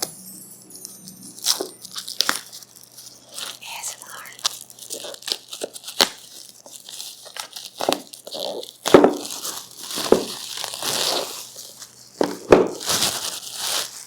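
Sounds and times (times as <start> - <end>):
plastic wrapping tearing and crinkling: 1.4 - 14.0.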